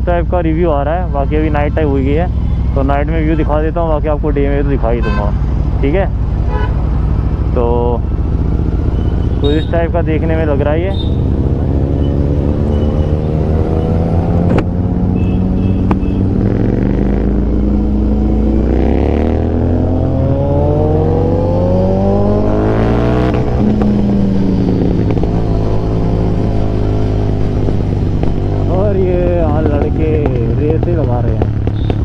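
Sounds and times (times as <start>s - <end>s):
motorcycle engine accelerating: 5.8s - 32.0s.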